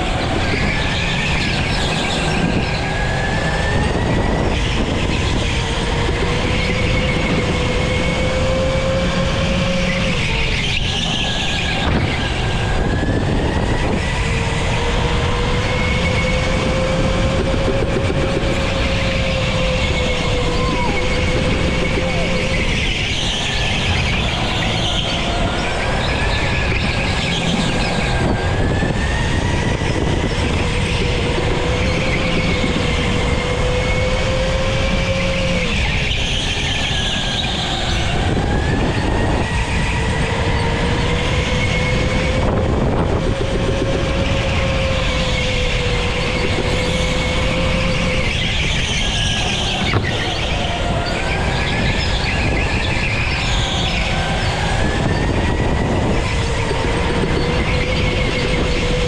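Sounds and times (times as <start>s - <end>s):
go-kart motor whine: 0.0s - 59.0s.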